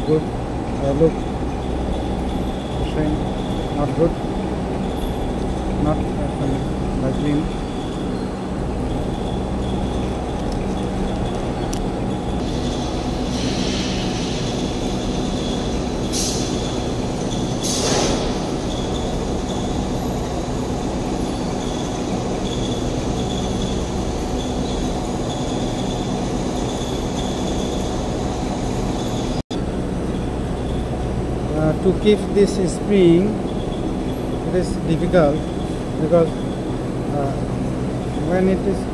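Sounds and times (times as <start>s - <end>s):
machinery hum with high whine: 0.0s - 38.9s.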